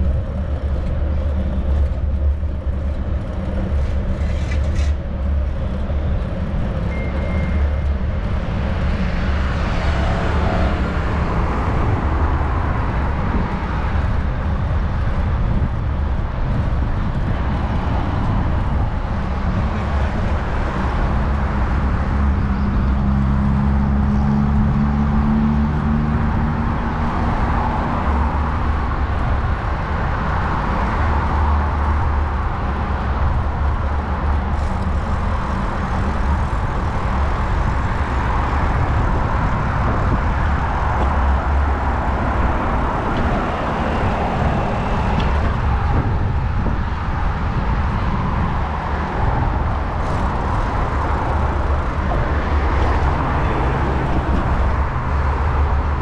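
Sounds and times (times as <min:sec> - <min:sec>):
road traffic going by: 0:00.0 - 0:56.0
vehicle engine droning: 0:00.0 - 0:56.0
wind rumble on microphone: 0:00.0 - 0:56.0.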